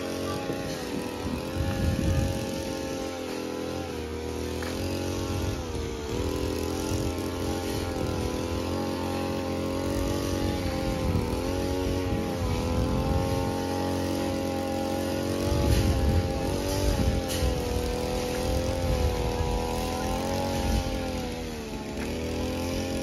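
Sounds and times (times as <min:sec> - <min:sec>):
vehicle engine running steadily: 0:00.0 - 0:23.0.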